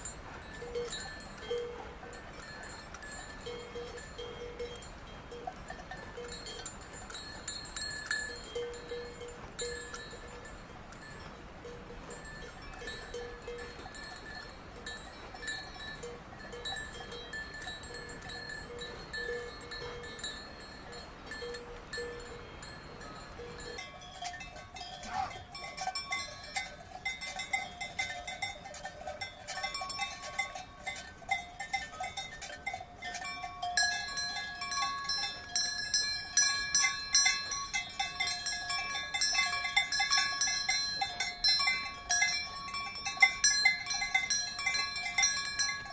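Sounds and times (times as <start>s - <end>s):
cowbells clanking: 0.0s - 45.9s.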